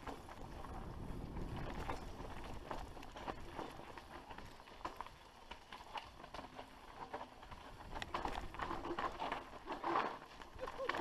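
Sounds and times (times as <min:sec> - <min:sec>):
bike rattling: 0:00.0 - 0:11.0
tyres crunching over loose stones: 0:00.0 - 0:11.0.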